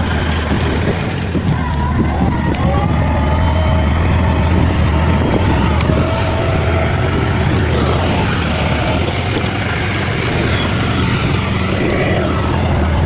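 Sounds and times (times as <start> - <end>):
bulldozer diesel engine drone: 0.0 - 13.0.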